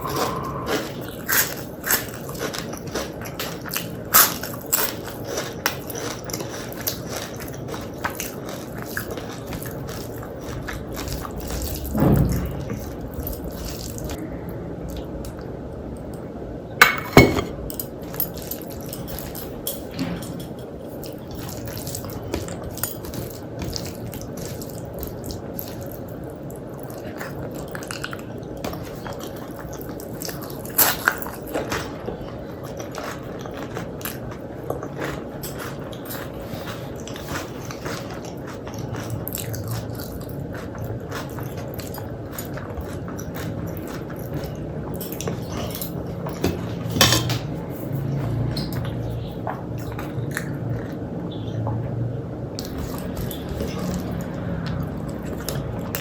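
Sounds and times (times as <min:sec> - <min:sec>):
close chewing and biting: 0:00.0 - 0:15.5, 0:17.8 - 0:56.0.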